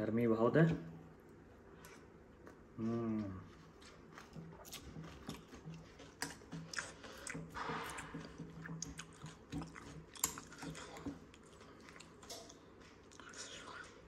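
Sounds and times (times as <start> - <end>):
chewing: 1.8 - 14.0.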